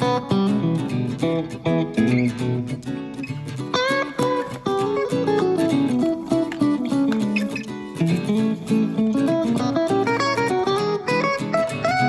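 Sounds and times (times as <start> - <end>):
plucked guitar: 0.0 - 12.0.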